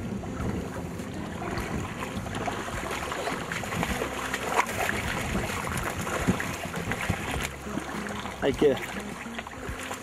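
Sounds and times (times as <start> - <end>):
river rushing: 0.0 - 10.0
splashing in shallow water: 0.0 - 10.0.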